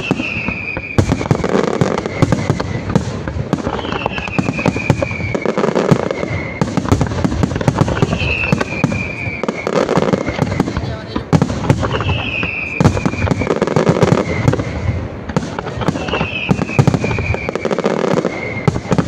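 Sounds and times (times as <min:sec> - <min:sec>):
fireworks bangs and crackling: 0:00.0 - 0:19.0
fireworks falling whistles: 0:00.0 - 0:19.0.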